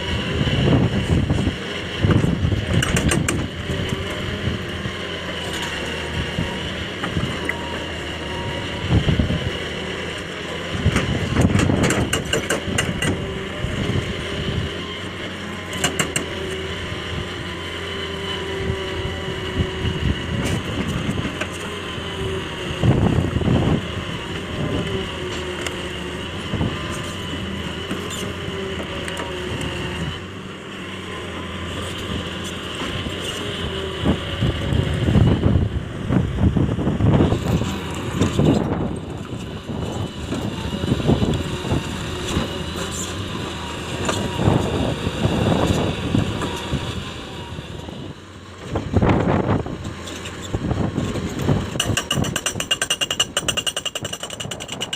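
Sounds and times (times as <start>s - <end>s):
excavator engine running: 0.0s - 54.9s.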